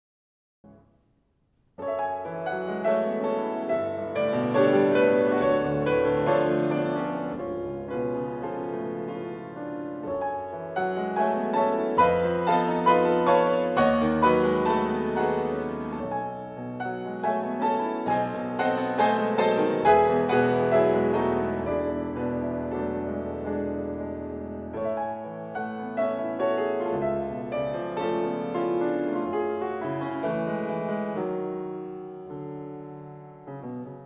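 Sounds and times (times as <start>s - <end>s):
grand piano playing: 1.8s - 34.0s.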